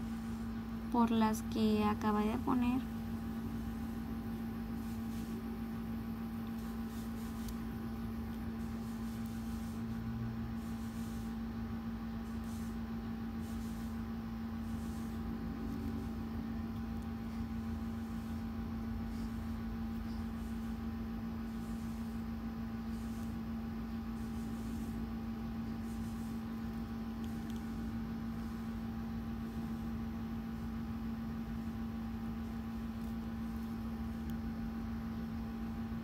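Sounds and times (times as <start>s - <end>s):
constant low tone hum: 0.0s - 36.0s.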